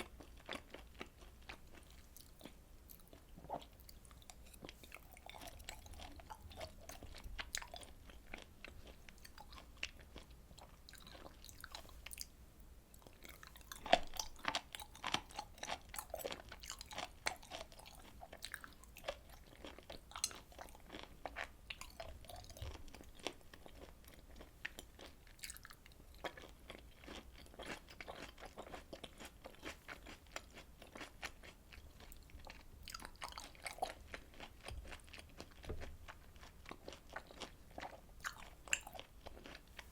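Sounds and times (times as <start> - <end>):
wet chewing: 0.0 - 12.2, 13.0 - 39.9.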